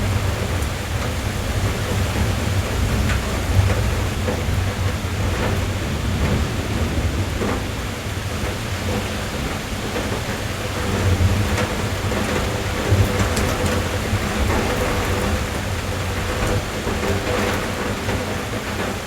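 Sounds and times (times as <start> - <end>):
rain on car roof: 0.0 - 19.0.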